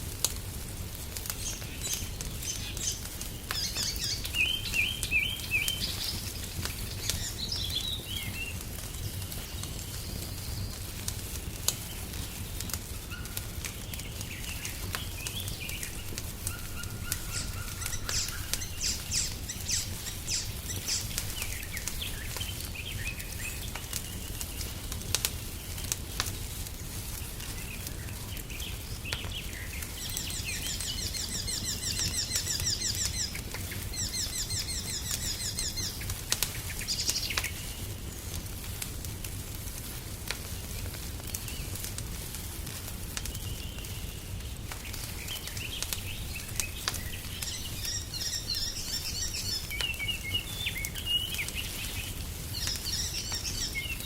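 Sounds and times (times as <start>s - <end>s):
wood fire crackling and popping: 0.0s - 54.0s
songbirds chirping and trilling: 1.2s - 38.6s, 43.2s - 54.0s.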